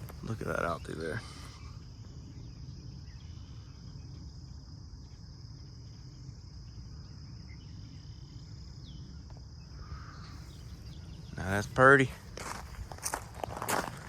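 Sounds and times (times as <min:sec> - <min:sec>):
faint bird chirps: 0:00.0 - 0:12.4
crickets trilling: 0:00.0 - 0:14.0.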